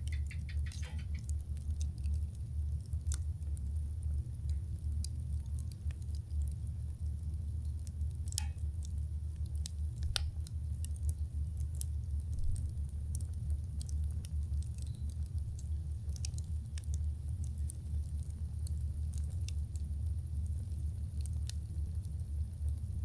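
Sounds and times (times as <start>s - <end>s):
campfire crackling pops: 0.0s - 23.0s
fire low rumble: 0.0s - 23.0s.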